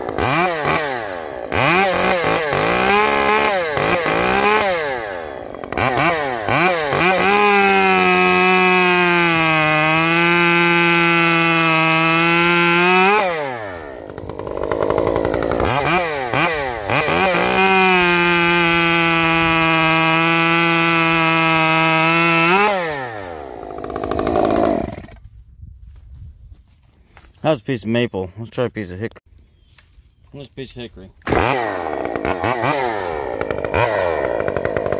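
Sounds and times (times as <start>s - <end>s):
chainsaw cutting wood: 0.0s - 25.3s, 31.2s - 34.9s.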